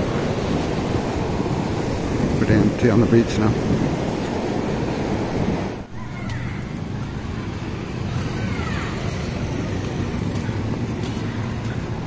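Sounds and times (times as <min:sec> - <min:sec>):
beach surf: 0:00.0 - 0:12.0
motorbikes: 0:00.0 - 0:12.0
traffic rumble: 0:00.0 - 0:12.0
wind: 0:00.0 - 0:12.0.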